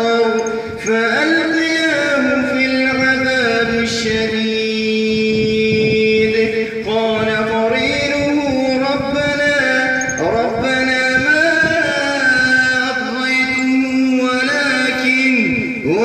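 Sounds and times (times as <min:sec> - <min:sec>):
man chanting recitation: 0:00.0 - 0:16.0.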